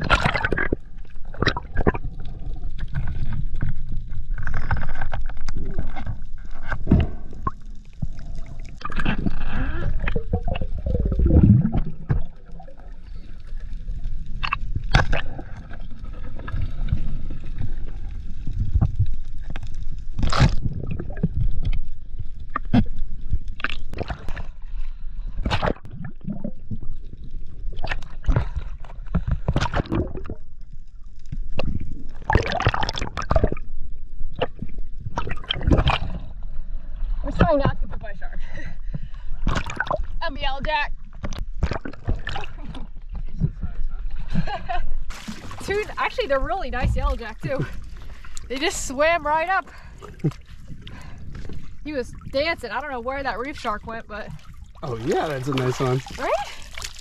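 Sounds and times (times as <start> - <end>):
water gurgling and sloshing: 0.0 - 57.0
water splashing and bubbling: 0.0 - 57.0.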